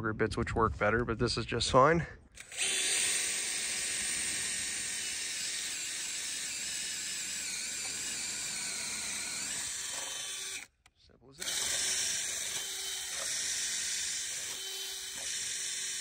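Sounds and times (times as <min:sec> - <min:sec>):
power drill boring into wood: 0:02.4 - 0:10.8, 0:11.4 - 0:16.0.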